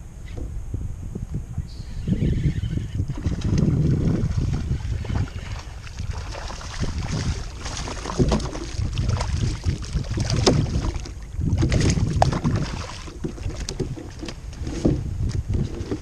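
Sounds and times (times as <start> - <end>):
wind buffeting microphone: 0.0 - 16.0
water splashing: 3.1 - 16.0.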